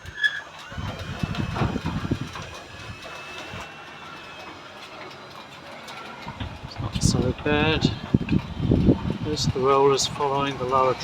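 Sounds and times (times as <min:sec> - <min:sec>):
garage door opener rumbling: 0:00.0 - 0:11.0.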